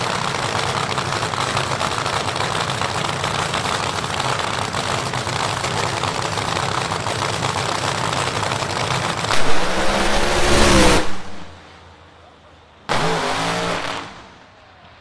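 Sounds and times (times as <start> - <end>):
drag racing car engine revving: 0.0 - 11.7, 12.9 - 14.5.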